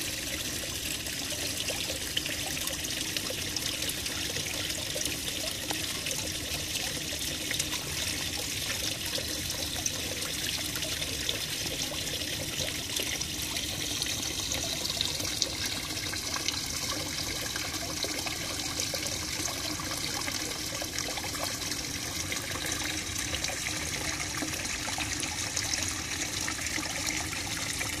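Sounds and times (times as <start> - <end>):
water trickling into pond: 0.0 - 28.0.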